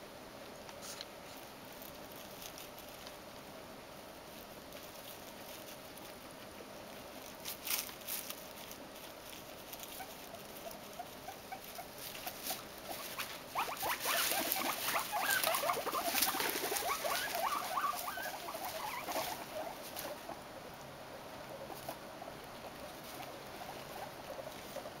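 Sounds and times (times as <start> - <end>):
guinea pigs chewing: 0.0 - 25.0
guinea pigs rummaging in hay: 0.0 - 25.0.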